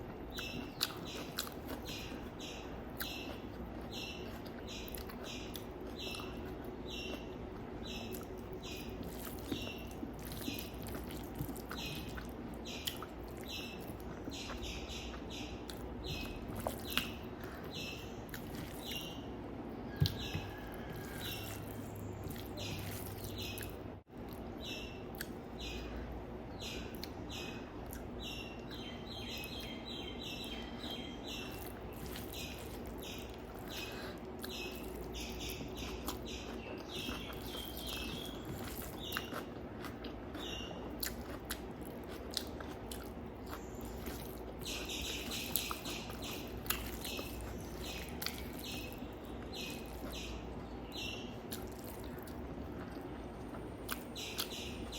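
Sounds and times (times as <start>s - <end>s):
person chewing food: 0.0s - 26.1s, 26.8s - 29.9s, 30.5s - 54.9s
small birds chirping: 0.0s - 54.9s
steady low hum: 0.0s - 54.9s.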